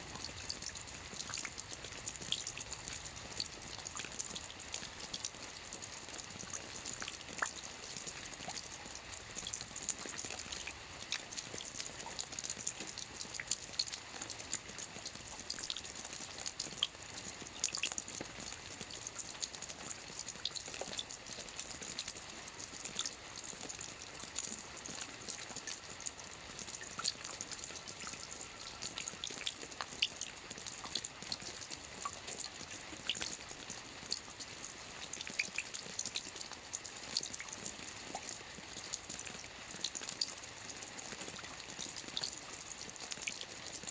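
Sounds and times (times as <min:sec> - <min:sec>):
rain drops pattering: 0:00.0 - 0:43.9.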